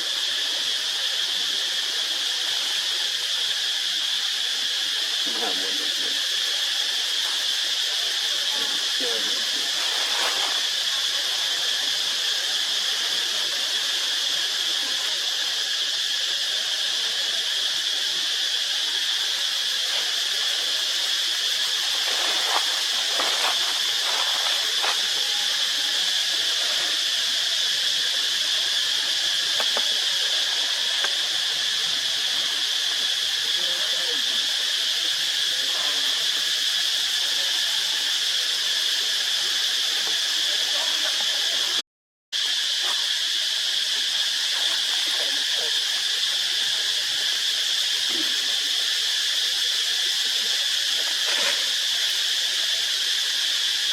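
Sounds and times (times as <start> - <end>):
insect chorus: 0.0 - 41.8, 42.4 - 53.9.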